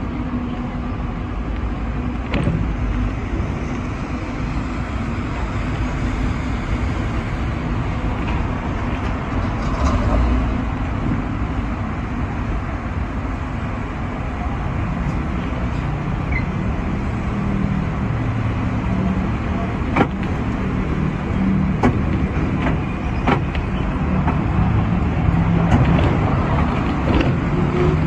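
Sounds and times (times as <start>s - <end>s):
tram hum and rumble: 0.0s - 28.0s.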